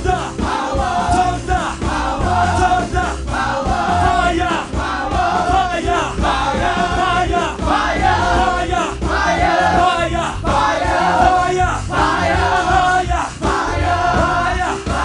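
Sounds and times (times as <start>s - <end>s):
gospel singing over a band: 0.0s - 15.0s.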